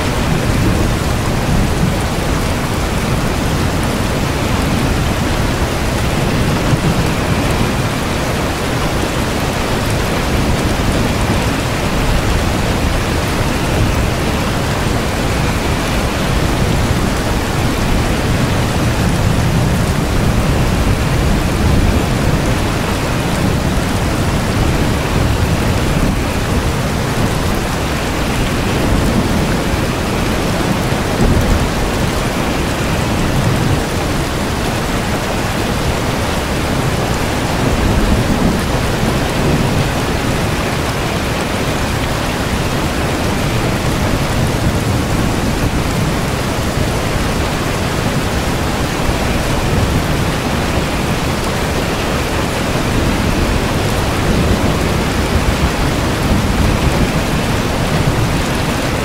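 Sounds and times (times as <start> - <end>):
heavy rain: 0.0 - 59.0
thunder rumbling: 0.0 - 59.0.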